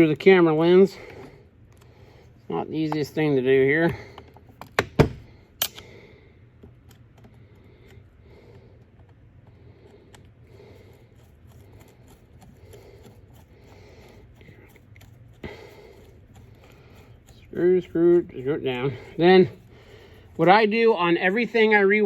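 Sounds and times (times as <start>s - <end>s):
slow breathing: 0.8s - 2.5s, 3.8s - 4.5s, 5.2s - 22.0s.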